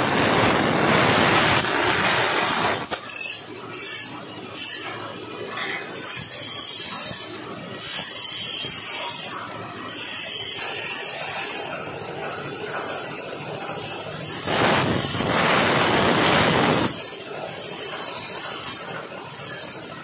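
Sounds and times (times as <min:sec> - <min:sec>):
plasma cutter hissing: 0:00.0 - 0:05.0, 0:06.0 - 0:20.0.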